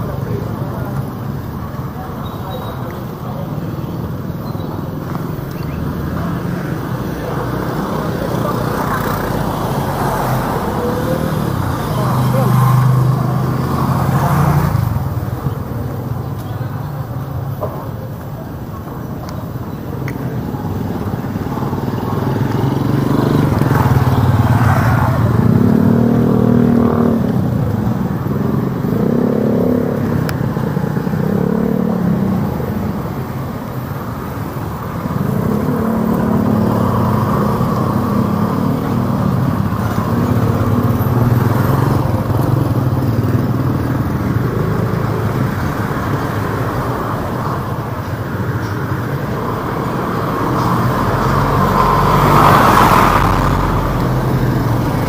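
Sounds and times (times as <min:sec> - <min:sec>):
motorcycles passing: 0:00.0 - 0:55.0
street traffic: 0:00.0 - 0:55.0.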